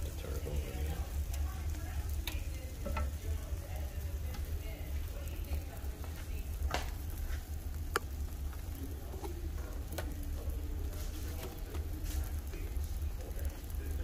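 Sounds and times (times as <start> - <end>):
sandwiches sizzling in butter: 0.0 - 14.0.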